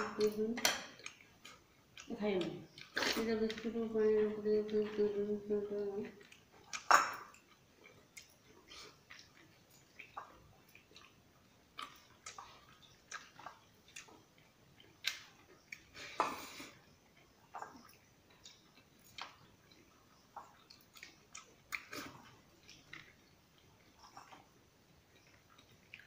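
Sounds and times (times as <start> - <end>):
wet chewing and lip smacks: 0.2 - 3.7, 6.1 - 26.0.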